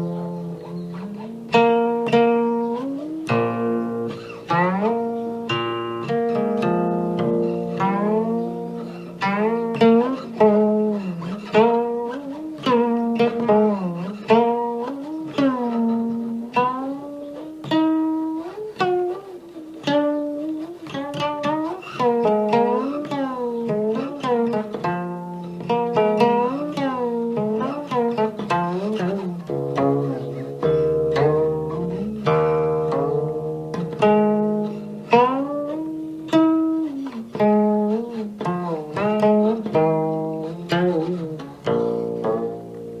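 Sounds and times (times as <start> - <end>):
plucked string melody: 0.0 - 43.0.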